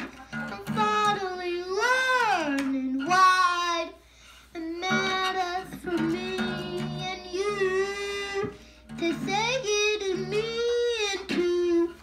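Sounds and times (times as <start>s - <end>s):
acoustic guitar chords: 0.0s - 3.7s, 4.7s - 12.0s
boy singing: 0.0s - 12.0s.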